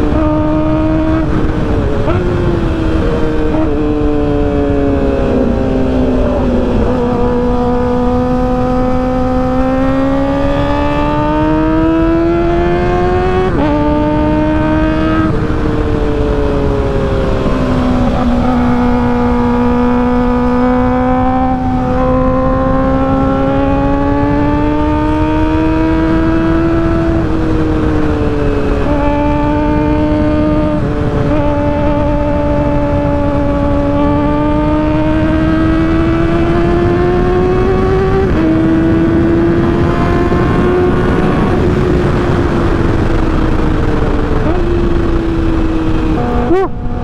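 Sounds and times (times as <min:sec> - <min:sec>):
motorcycle engine revving: 0:00.0 - 0:47.0
wind and road noise: 0:00.0 - 0:47.0.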